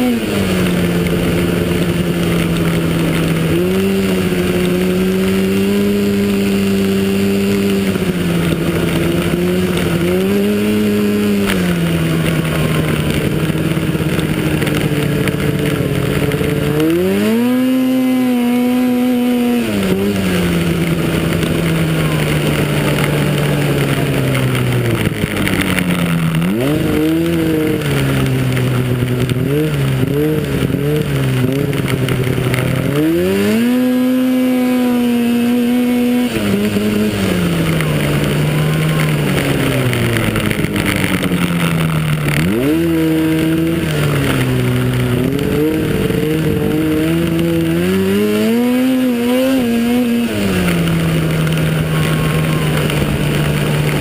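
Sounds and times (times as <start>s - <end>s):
snowmobile engine revving: 0.0s - 54.0s
snowmobile track noise: 0.0s - 54.0s.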